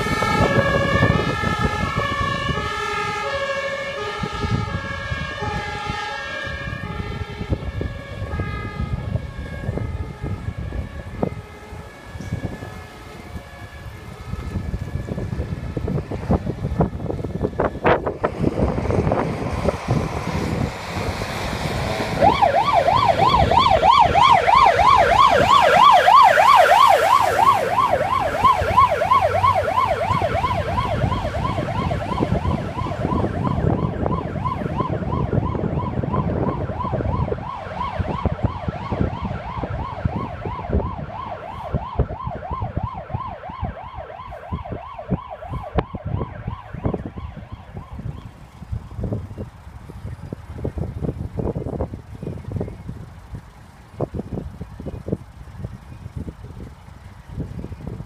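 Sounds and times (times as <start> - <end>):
fire engine siren wailing: 0.0 - 58.0
wind buffeting microphone: 0.0 - 58.0.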